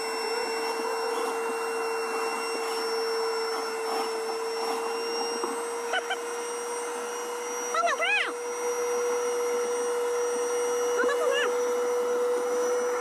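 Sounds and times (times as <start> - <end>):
electric motor whining hum: 0.0 - 13.0.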